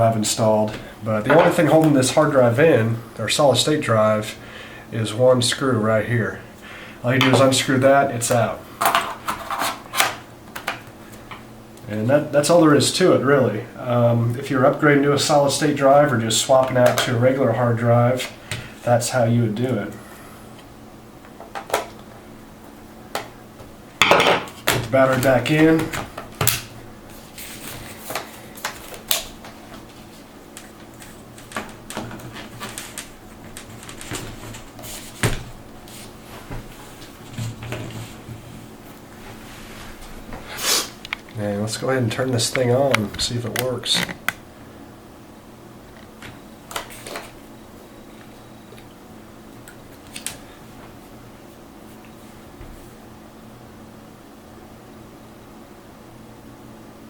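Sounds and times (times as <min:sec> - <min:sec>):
laptop cooling fan running: 0:00.0 - 0:57.0.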